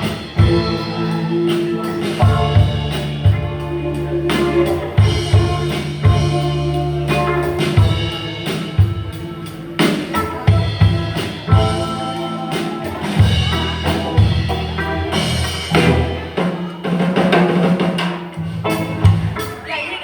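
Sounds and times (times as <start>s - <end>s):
band music: 0.0s - 20.0s.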